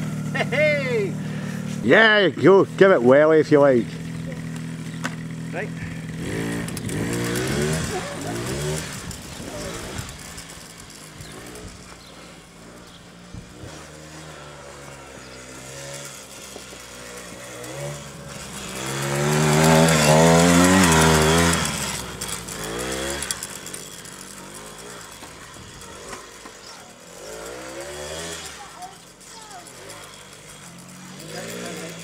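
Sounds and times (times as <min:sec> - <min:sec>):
small petrol engine revving: 0:00.0 - 0:32.0.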